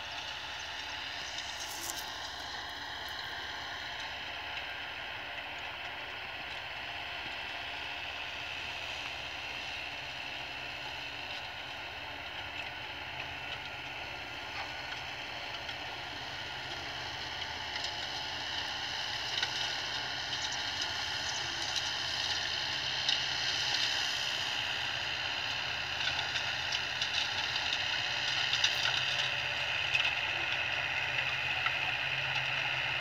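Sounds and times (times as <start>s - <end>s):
tractor and manure spreader running: 0.0s - 33.0s.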